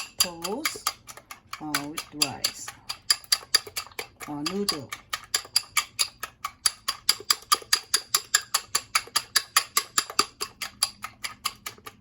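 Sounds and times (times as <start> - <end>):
fork clicking against bowl: 0.0 - 12.0.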